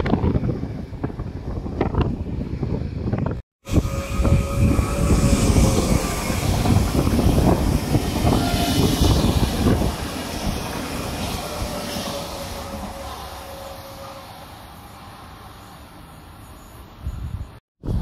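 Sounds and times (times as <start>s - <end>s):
train wheels rumbling on rails: 0.0s - 17.6s.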